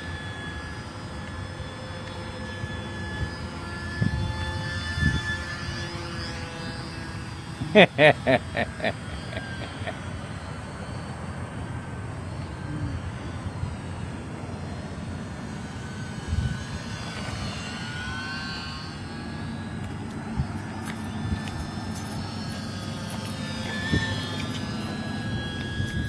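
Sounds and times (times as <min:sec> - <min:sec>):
model airplane motor whining: 0:00.0 - 0:26.0.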